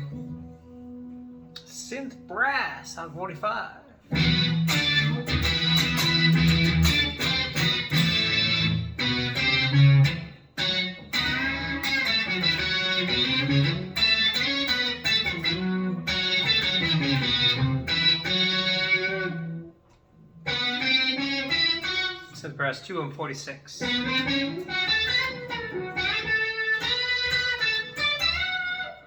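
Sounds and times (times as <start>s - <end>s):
brass-like synth guitar notes: 0.0s - 19.6s, 23.8s - 29.0s.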